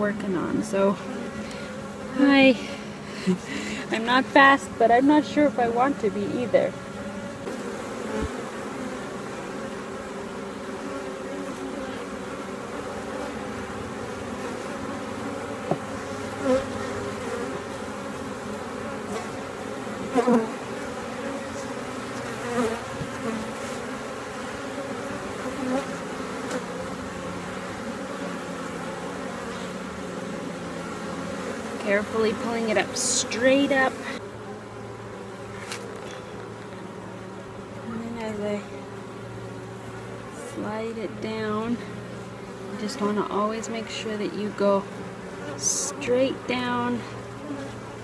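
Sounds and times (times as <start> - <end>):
bee colony humming: 0.0 - 48.0
single bees buzzing: 0.0 - 48.0.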